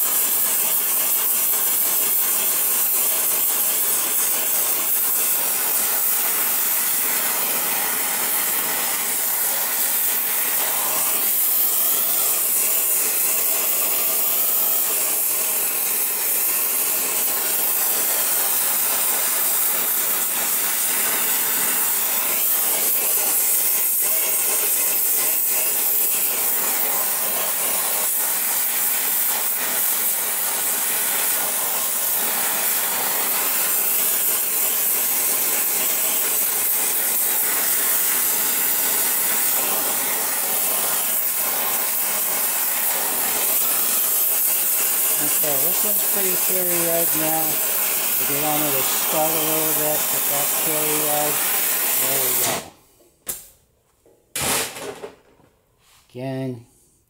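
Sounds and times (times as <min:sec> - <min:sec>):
gas torch flame hissing: 0:00.0 - 0:52.8.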